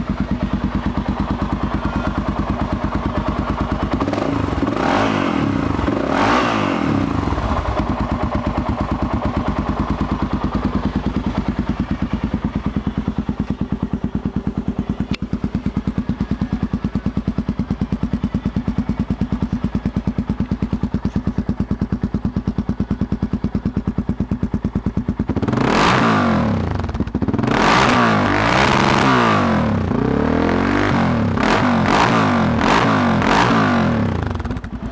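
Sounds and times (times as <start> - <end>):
motorcycle engine idling: 0.0 - 34.9
motorcycle engine revving: 0.0 - 34.9.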